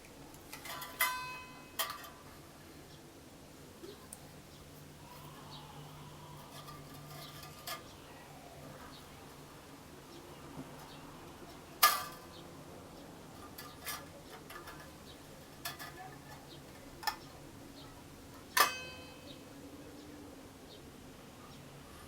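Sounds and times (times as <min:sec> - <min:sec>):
quiet hiss: 0:00.0 - 0:22.0.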